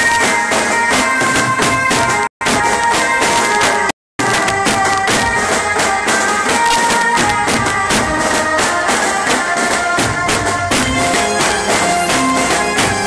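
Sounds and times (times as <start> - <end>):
fast drum beats: 0.0 - 13.0
held melody notes: 0.0 - 13.0.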